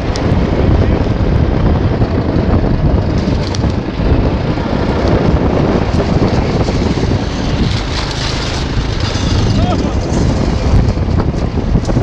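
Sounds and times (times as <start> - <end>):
quad bike engine running: 0.0 - 12.0
wind buffeting microphone: 0.0 - 12.0.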